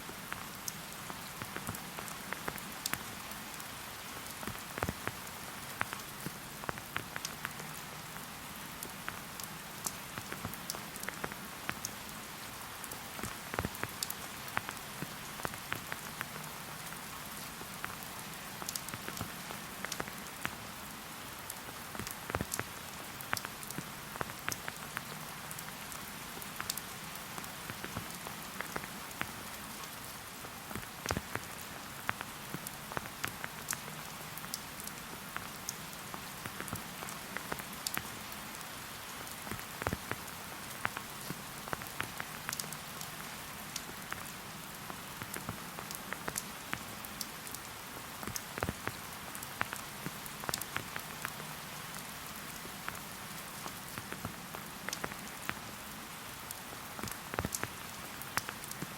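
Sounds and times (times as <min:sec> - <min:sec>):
raindrops tapping close by: 0:00.0 - 0:55.8, 0:56.4 - 0:58.9
rain hissing: 0:00.0 - 0:58.9.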